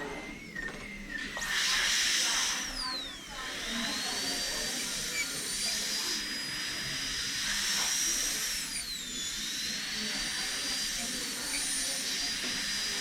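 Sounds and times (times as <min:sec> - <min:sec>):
dental drill high whine: 0:00.0 - 0:13.0
air hiss: 0:01.4 - 0:13.0.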